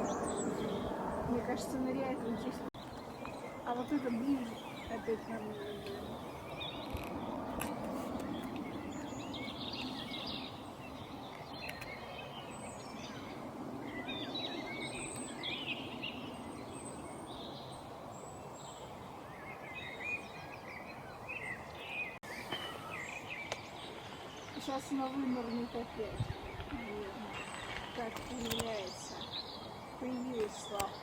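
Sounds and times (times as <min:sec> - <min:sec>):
birds chirping: 0:00.0 - 0:31.0
outdoor ambient hiss: 0:00.0 - 0:31.0.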